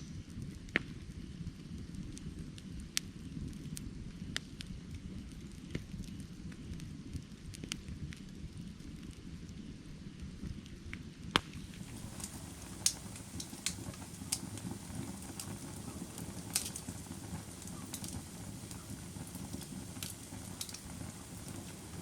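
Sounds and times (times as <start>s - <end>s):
low rumble of flames: 0.0s - 22.0s
firewood crackling and popping: 0.1s - 22.0s.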